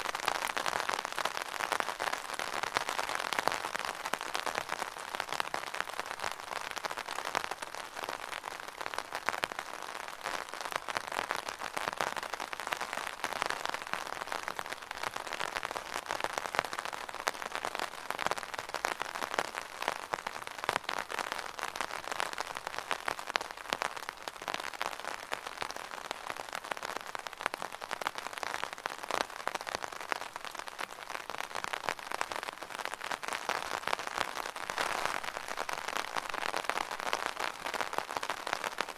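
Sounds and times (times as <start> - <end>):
rain pattering on an umbrella: 0.0 - 38.9.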